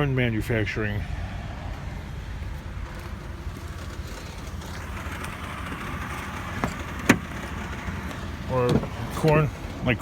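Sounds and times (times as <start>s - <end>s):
minivan engine rumble: 0.0s - 10.0s
road noise: 0.0s - 10.0s.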